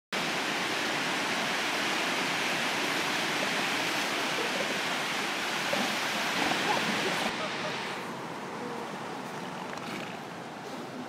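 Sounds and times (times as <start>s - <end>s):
surf washing over rocky beach: 0.2s - 10.6s.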